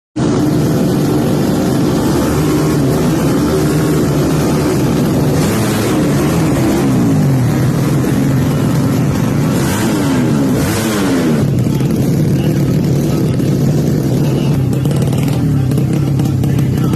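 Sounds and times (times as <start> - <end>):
motorcycle engine revving: 0.2 - 16.9.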